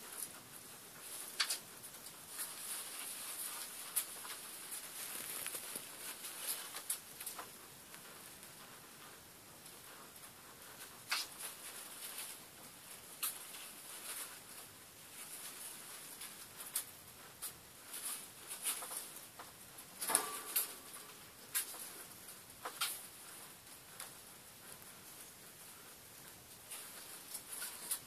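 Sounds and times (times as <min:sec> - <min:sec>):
rats scratching on wire cage: 0:00.0 - 0:08.9, 0:09.6 - 0:28.0.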